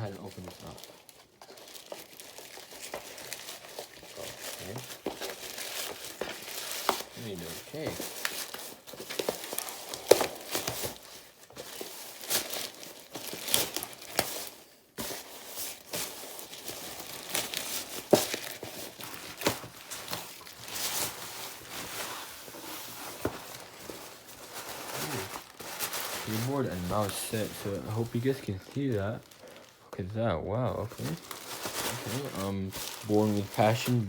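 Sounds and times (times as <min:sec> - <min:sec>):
packaging crinkling and tearing: 0:00.0 - 0:34.0.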